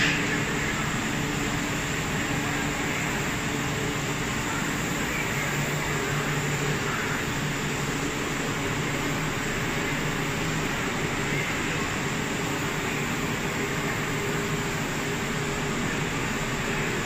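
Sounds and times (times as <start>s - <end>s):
packing machine hum and hiss: 0.0s - 17.0s.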